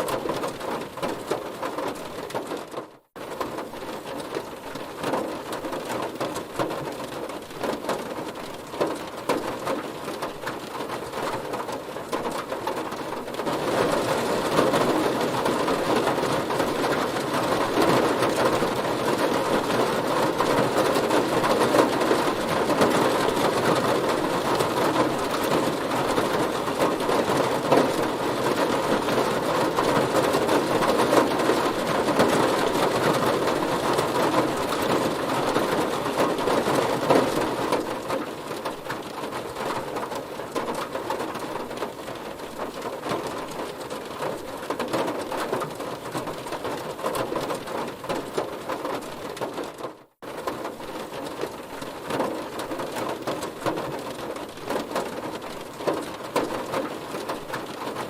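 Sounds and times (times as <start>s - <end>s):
heavy rain on a car body: 0.0s - 58.0s.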